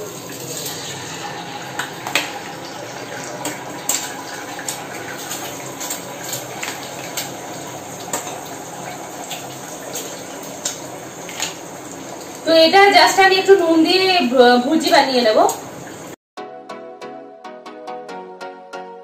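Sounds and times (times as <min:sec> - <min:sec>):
eggs sizzling in oil: 0:00.0 - 0:16.2.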